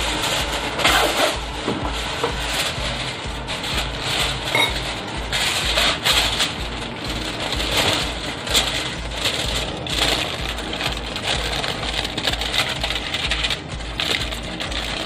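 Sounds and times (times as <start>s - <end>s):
aluminium foil crinkling: 0.0s - 15.0s
low pulsing hum: 0.0s - 15.0s.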